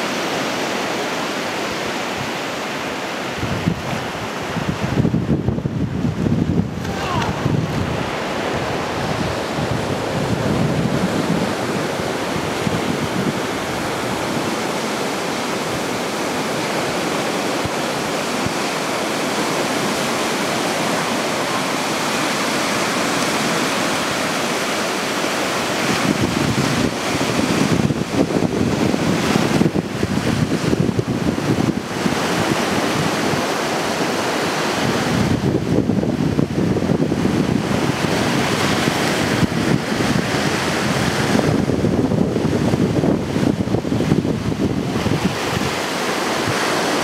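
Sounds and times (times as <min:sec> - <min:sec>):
surf on sandy beach: 0:00.0 - 0:47.0
wind buffeting microphone: 0:01.7 - 0:47.0.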